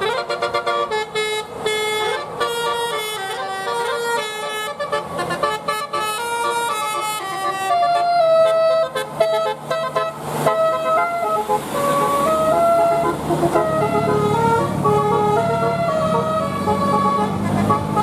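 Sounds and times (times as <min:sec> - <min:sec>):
multi-tone musical air horn: 0:00.0 - 0:18.0.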